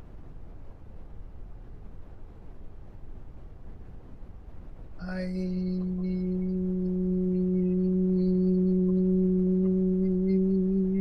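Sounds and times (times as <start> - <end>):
faint hiss: 0.0 - 11.0
low background rumble: 0.0 - 11.0.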